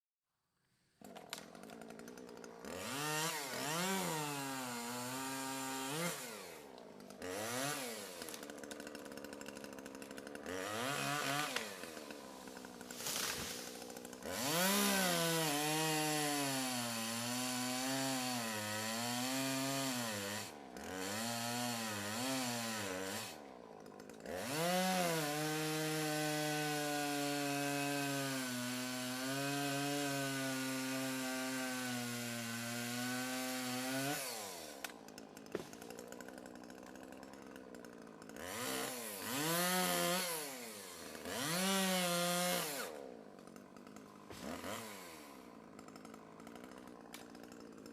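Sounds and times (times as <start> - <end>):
chainsaw cutting trees: 0.8 - 47.9.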